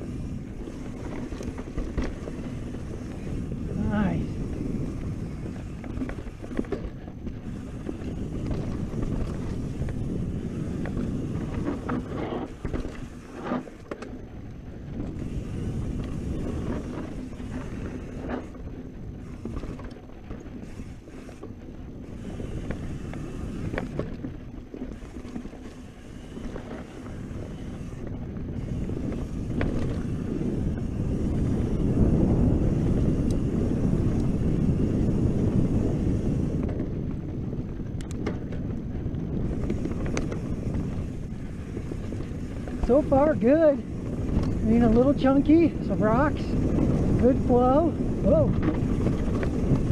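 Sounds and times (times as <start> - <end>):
bike tyre rumble: 0.0 - 49.9
wind buffeting microphone: 0.0 - 49.9.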